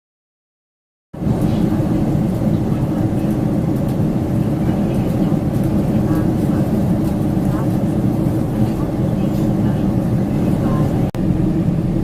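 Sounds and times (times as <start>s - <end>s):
airplane cabin roar: 1.2s - 12.0s.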